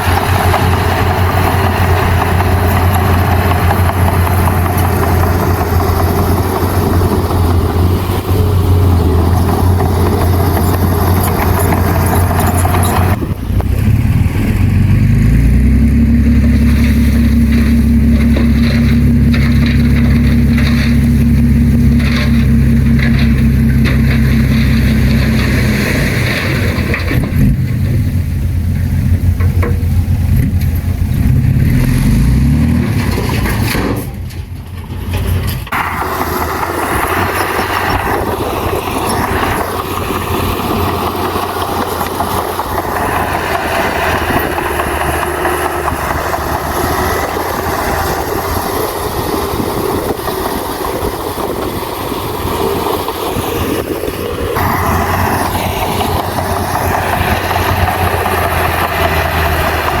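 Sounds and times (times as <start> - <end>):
heavy machinery diesel engines: 0.0 - 60.0.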